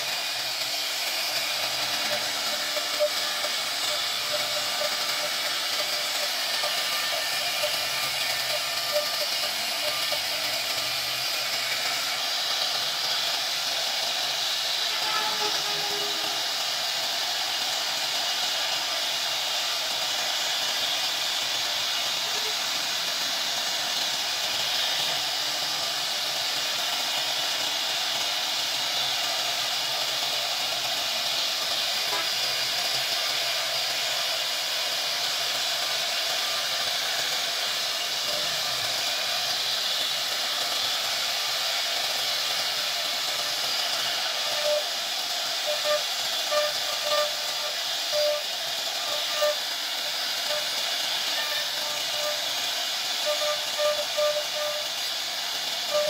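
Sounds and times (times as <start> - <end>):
router bit cutting wood: 0.0 - 56.0.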